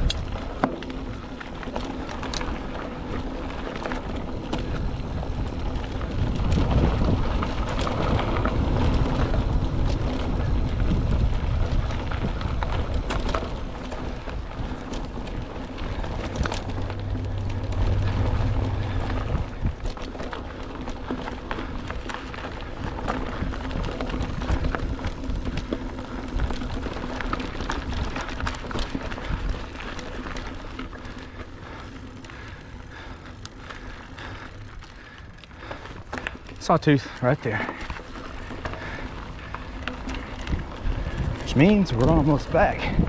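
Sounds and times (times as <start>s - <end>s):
bike clicks and rattles: 0.0s - 43.0s
bike tyres rolling on dirt: 0.0s - 43.0s
wind buffeting microphone: 0.0s - 43.0s.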